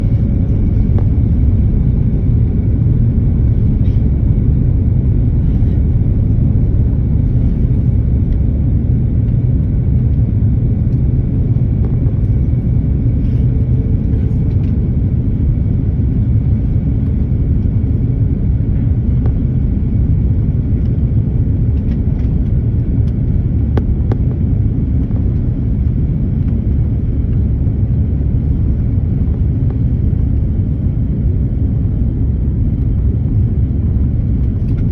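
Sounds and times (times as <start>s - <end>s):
airliner landing rumble: 0.0s - 34.9s.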